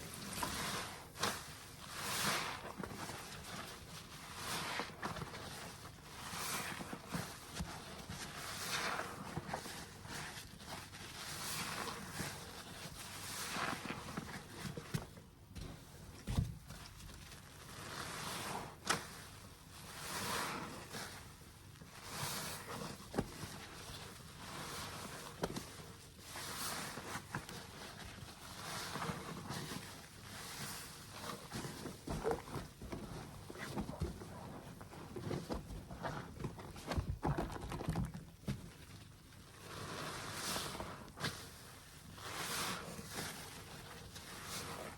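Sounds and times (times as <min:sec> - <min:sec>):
soapy sponge squishing: 0:00.0 - 0:44.9.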